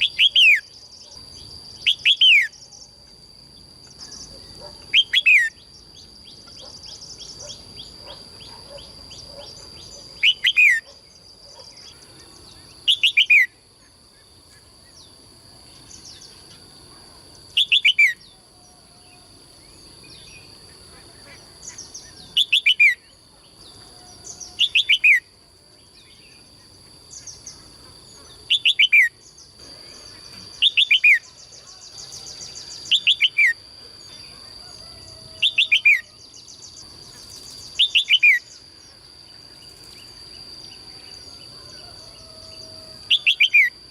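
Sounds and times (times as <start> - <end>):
songbird calling: 0.0 - 3.0, 3.8 - 43.9.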